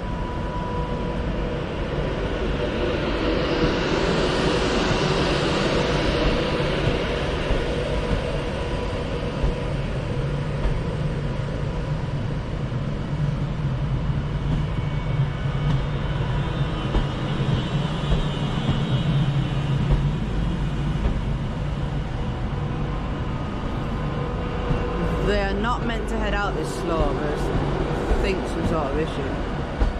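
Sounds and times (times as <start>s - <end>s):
train rumbling: 0.0s - 29.9s
train whining: 3.6s - 29.9s.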